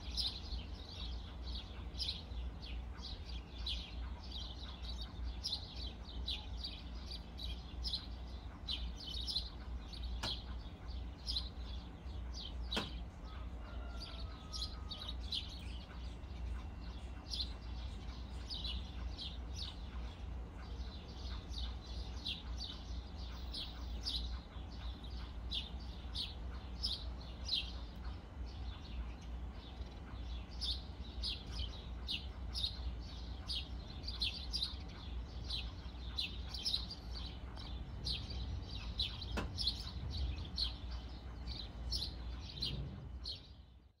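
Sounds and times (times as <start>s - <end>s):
bird chirping: 0.0s - 44.0s
low steady rumble: 0.0s - 44.0s.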